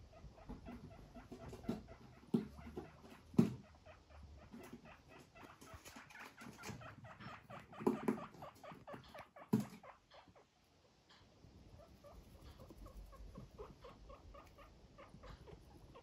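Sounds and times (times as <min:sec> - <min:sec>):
guinea pigs ticking on rug: 0:00.0 - 0:16.0.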